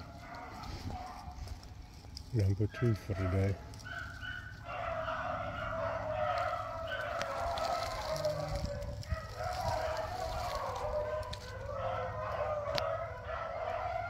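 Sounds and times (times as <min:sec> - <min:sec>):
dogs baying: 0:00.0 - 0:14.0.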